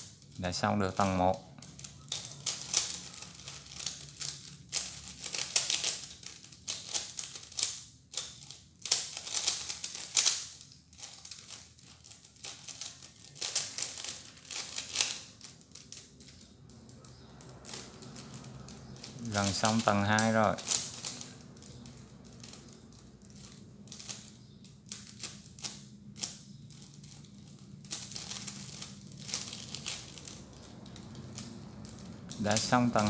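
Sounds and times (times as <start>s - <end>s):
plastic puzzle cube clicking: 0.0s - 33.0s.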